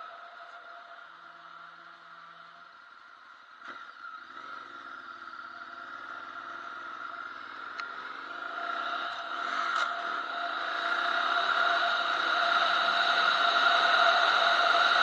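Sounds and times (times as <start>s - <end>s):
motorcycle engine accelerating: 0.0s - 15.0s
steady high whine: 0.0s - 15.0s.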